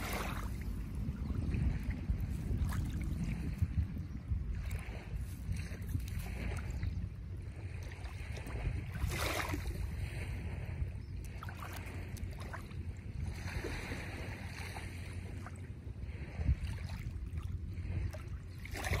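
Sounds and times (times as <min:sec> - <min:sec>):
small waves lapping shore: 0:00.0 - 0:19.0
wind on microphone: 0:00.0 - 0:19.0.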